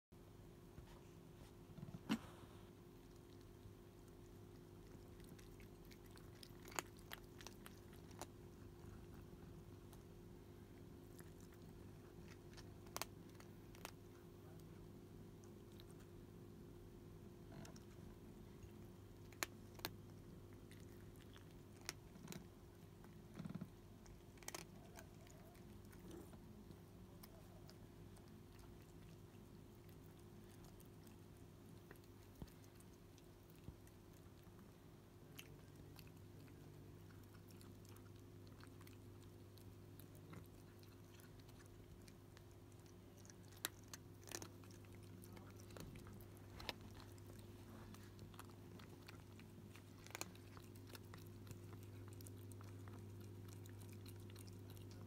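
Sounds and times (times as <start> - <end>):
cats chewing and crunching food: 0.2 - 55.0.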